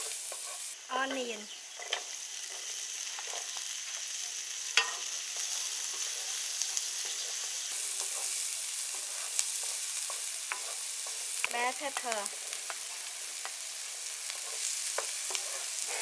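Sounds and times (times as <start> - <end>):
wooden spatula scraping pan: 0.0 - 0.7, 1.8 - 12.9, 14.3 - 16.0
onion sizzling in butter: 0.0 - 16.0.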